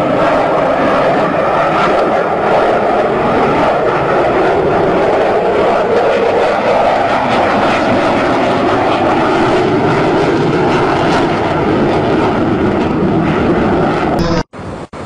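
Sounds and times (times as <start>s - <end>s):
fighter jet roaring past: 0.0s - 15.0s.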